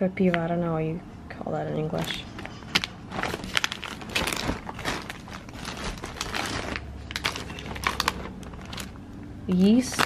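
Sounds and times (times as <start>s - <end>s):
plastic packaging crinkling: 1.9s - 10.0s.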